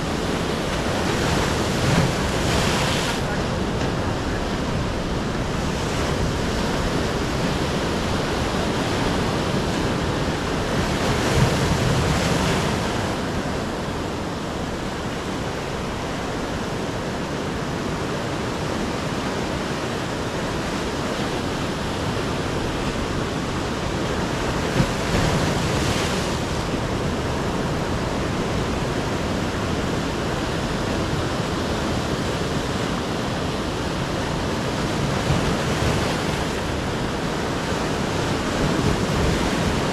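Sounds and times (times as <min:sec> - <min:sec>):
ocean surf breaking on rocks: 0:00.0 - 0:39.9.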